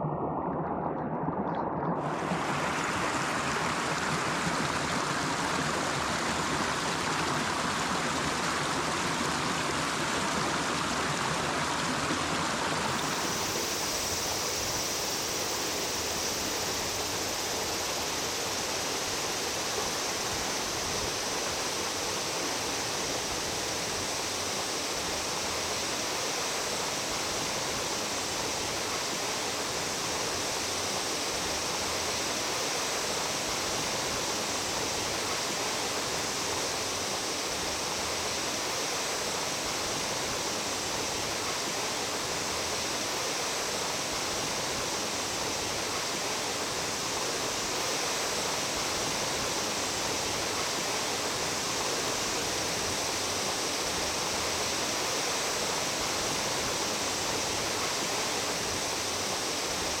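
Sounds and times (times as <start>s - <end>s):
stream water rushing: 1.6s - 60.0s.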